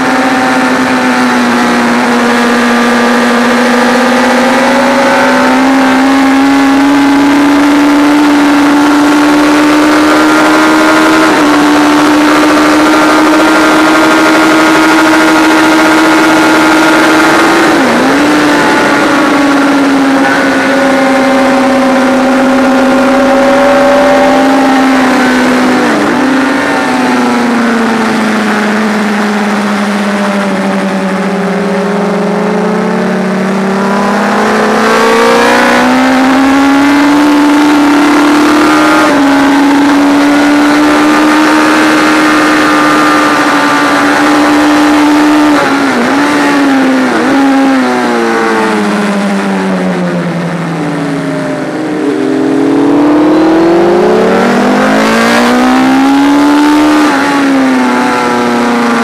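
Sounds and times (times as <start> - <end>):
racing motorcycle engine at high revs: 0.0 - 59.0.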